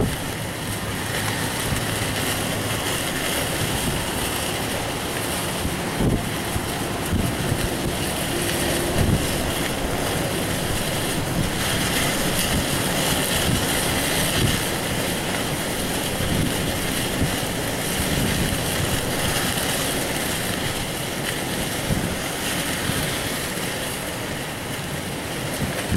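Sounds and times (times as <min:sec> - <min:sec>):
gusty wind rushing: 0:00.0 - 0:25.9
wind buffeting microphone: 0:00.0 - 0:25.9.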